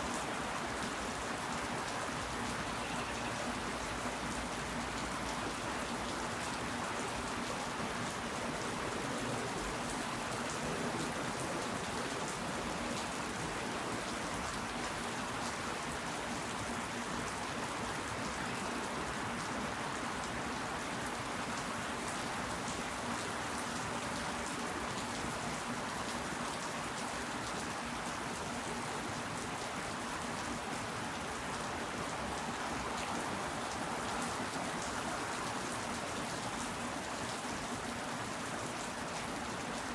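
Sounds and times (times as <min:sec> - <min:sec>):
rain falling: 0:00.0 - 0:39.9
raindrops ticking on surfaces: 0:00.0 - 0:39.9.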